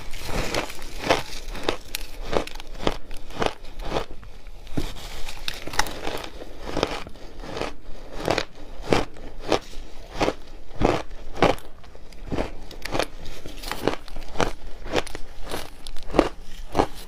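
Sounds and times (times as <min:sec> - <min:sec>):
person crunching ice: 0:00.0 - 0:17.0.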